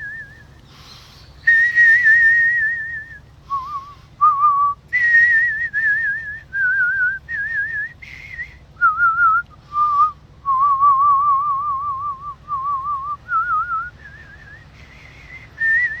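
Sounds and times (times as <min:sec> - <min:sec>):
person whistling a slow tune: 0:00.0 - 0:00.5, 0:01.4 - 0:16.0.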